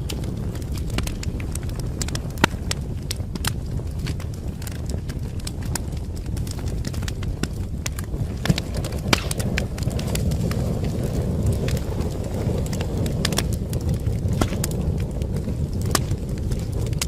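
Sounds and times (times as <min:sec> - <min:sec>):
fire pops and snaps: 0:00.0 - 0:17.0
low rumble of burning: 0:00.0 - 0:17.0
wood fire crackling: 0:00.0 - 0:17.0.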